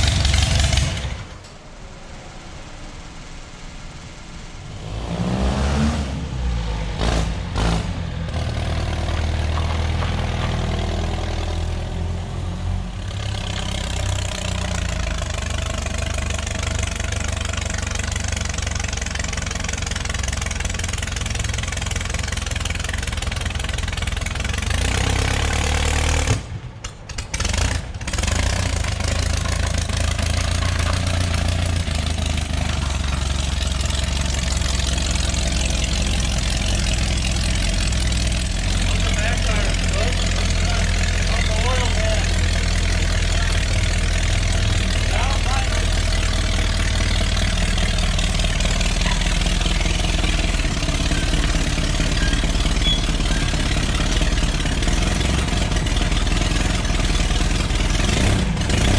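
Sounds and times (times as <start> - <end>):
dragster engine starting and revving: 0.0 - 58.9.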